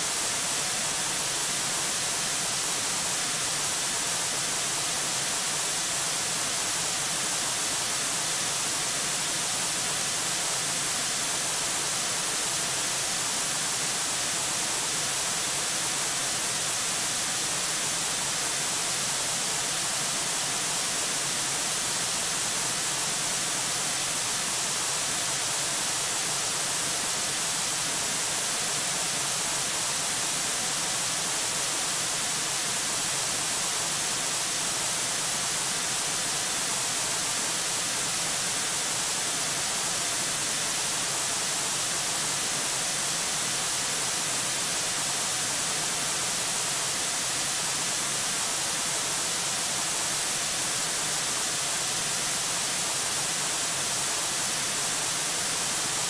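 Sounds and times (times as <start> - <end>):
static hiss: 0.0 - 56.0.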